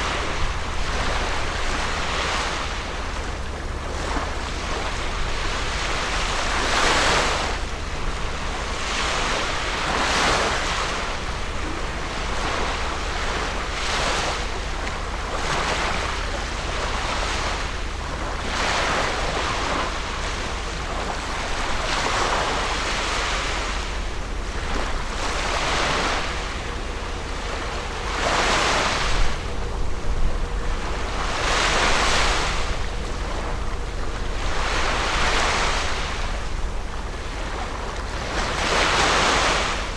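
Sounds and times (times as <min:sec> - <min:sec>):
small waves washing ashore: 0:00.0 - 0:39.9
steady low rumble: 0:00.0 - 0:39.9.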